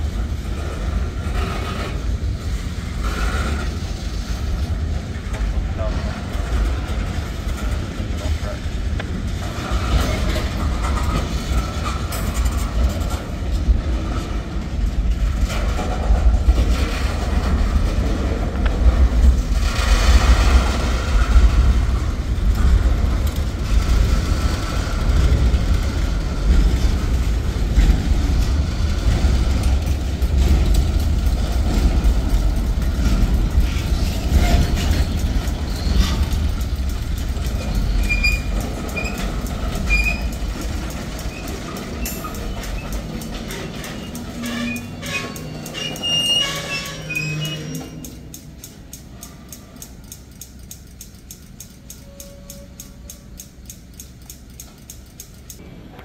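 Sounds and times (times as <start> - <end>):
freight train rumbling: 0.0 - 56.0
wheels clacking over rail joints: 0.0 - 56.0.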